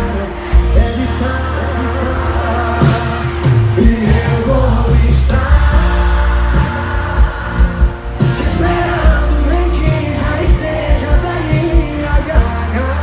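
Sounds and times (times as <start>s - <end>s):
live pop band: 0.0s - 13.0s
person singing: 0.0s - 13.0s.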